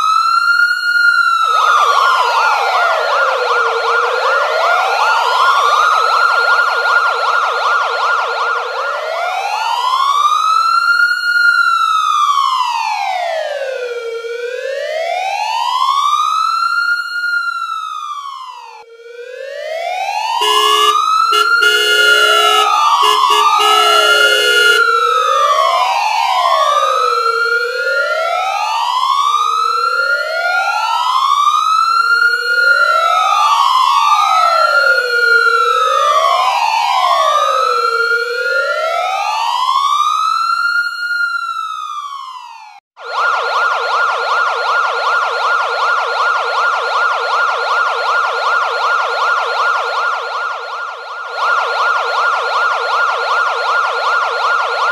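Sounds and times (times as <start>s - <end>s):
police siren wailing: 0.0s - 54.9s.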